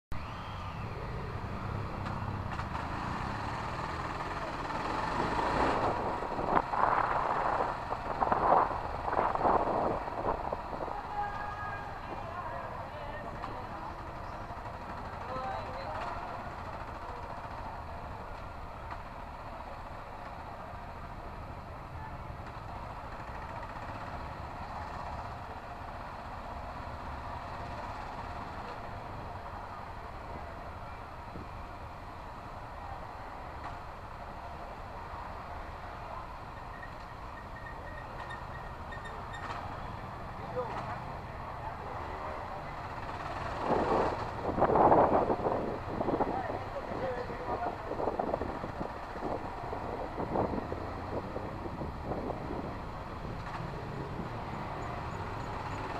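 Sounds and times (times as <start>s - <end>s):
road and street noise: 0.1s - 55.9s.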